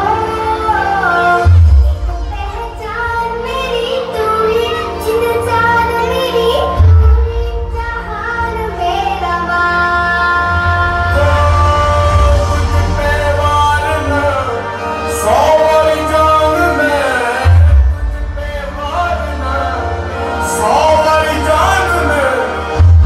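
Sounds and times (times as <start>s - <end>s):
song with sung vocals and beat: 0.0s - 23.0s.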